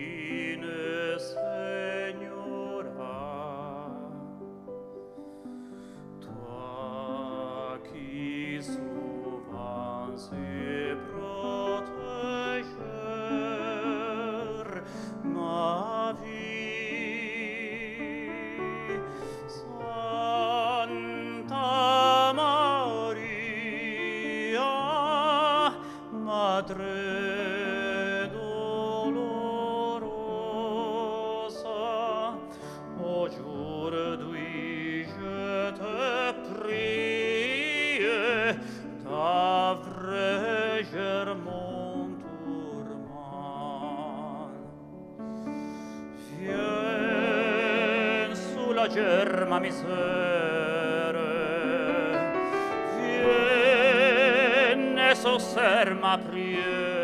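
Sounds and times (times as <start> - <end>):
tenor singing operatically: 6.3 - 44.7, 46.2 - 57.0.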